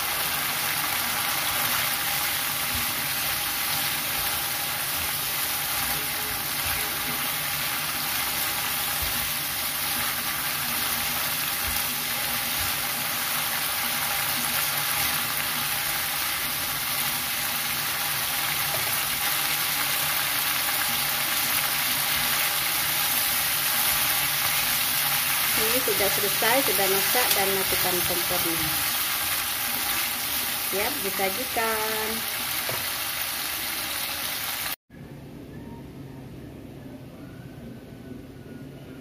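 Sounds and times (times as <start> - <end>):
food sizzling in frying pan: 0.0 - 34.8.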